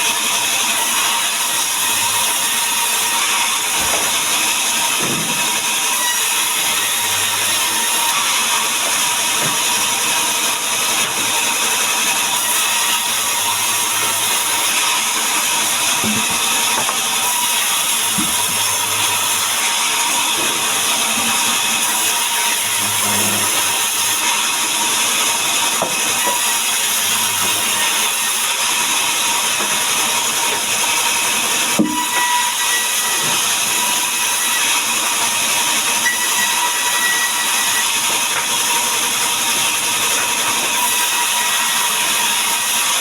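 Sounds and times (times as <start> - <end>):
power saw cutting wood: 0.0 - 43.0.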